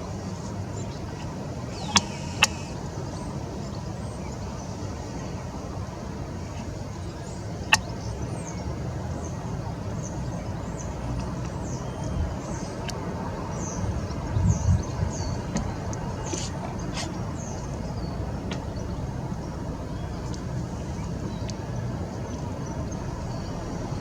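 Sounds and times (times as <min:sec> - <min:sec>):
steady low rumble: 0:00.0 - 0:24.0
small birds chirping: 0:00.7 - 0:05.4, 0:06.5 - 0:24.0.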